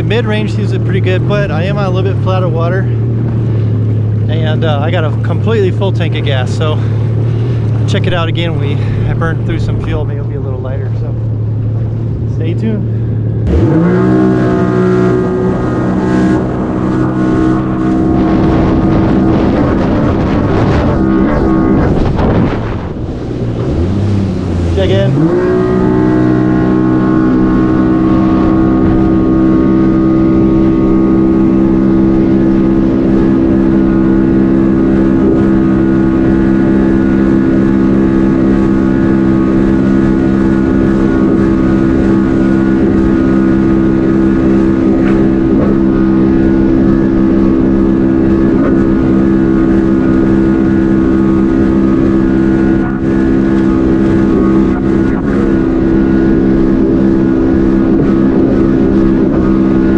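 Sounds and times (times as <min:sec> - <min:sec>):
personal watercraft engine running: 0:00.0 - 0:59.9.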